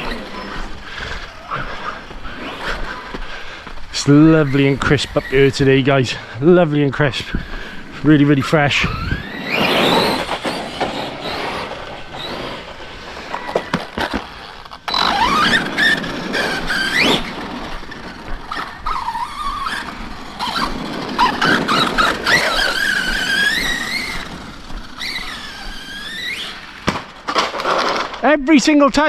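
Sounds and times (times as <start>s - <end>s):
toy truck electric motor whining: 0.0s - 3.2s, 4.1s - 6.2s, 7.1s - 28.1s.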